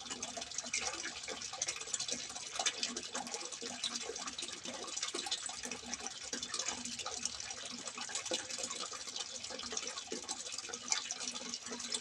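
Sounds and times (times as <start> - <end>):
water trickling from a spout: 0.0 - 12.0.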